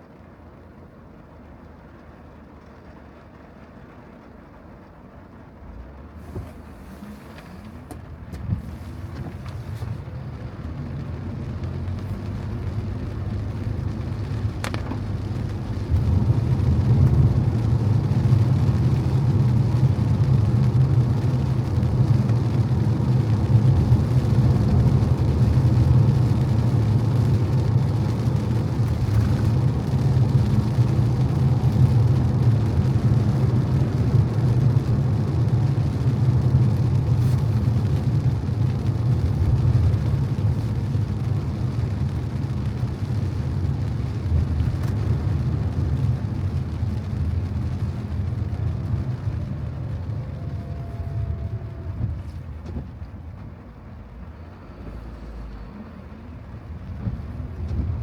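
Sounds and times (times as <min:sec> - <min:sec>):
car driving on wet road: 0:00.0 - 0:58.0
rain: 0:00.0 - 0:58.0.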